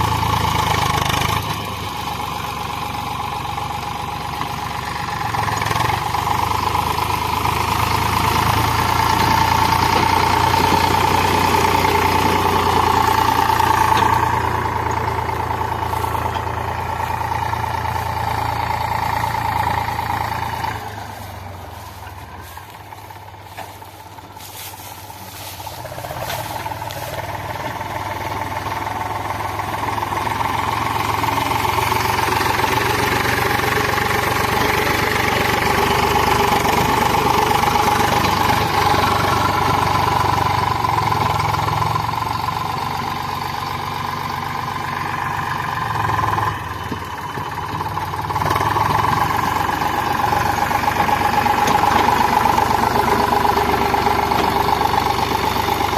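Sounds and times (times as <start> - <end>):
diesel tractor engine running: 0.0 - 55.9.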